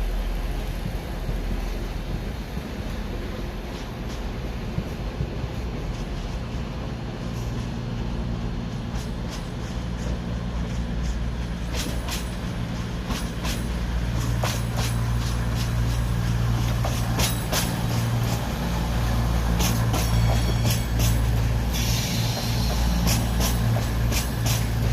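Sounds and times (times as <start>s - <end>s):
train rumbling: 0.0s - 24.9s.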